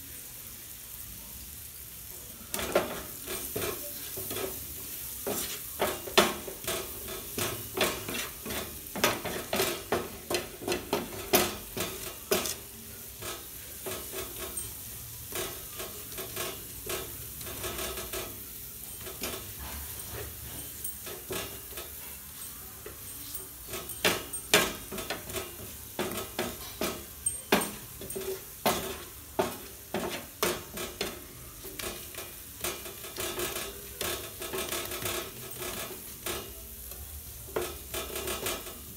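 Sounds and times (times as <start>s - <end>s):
onions sizzling in butter: 0.0s - 38.9s
spatula scraping and tapping pan: 2.5s - 38.9s.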